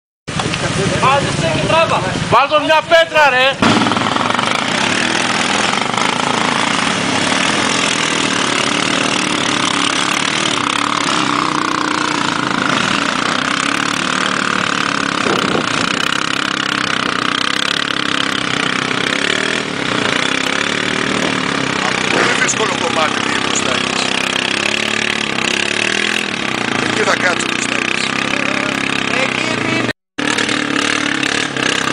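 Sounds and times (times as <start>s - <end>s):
atv engine running: 0.3s - 31.9s.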